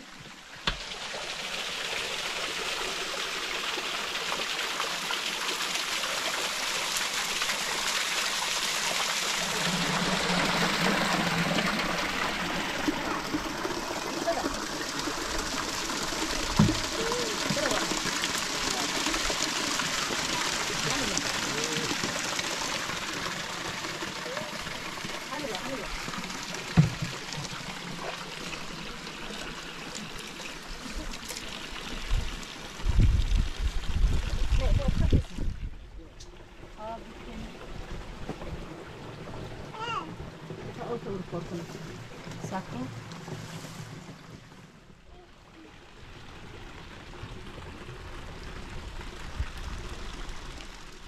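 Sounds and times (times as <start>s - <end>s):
water running: 0.0s - 35.6s, 39.4s - 44.6s.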